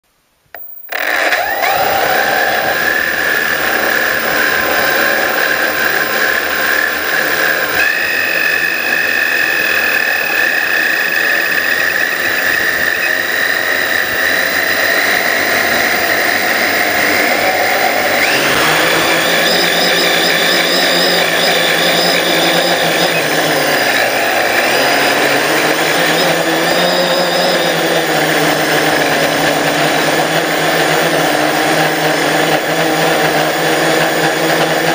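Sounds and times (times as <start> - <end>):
drone propellers whining: 0.5 - 34.9.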